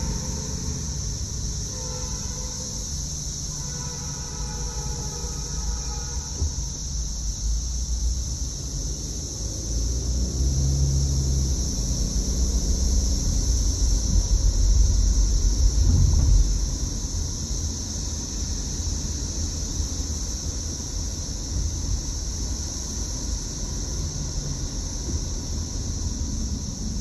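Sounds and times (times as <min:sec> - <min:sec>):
car road and engine rumble: 0:00.0 - 0:27.0
cicadas buzzing: 0:00.0 - 0:27.0.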